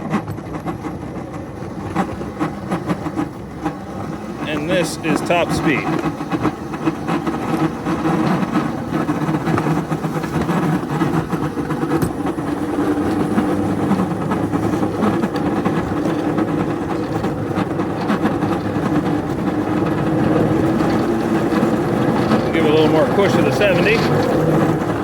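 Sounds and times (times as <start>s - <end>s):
small locomotive engines droning: 0.0s - 25.0s.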